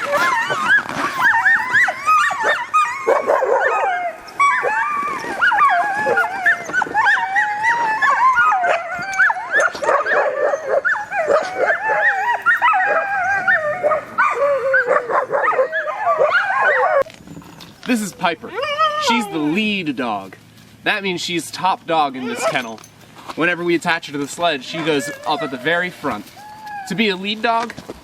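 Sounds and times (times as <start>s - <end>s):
sled dogs howling and yipping: 0.0s - 28.0s.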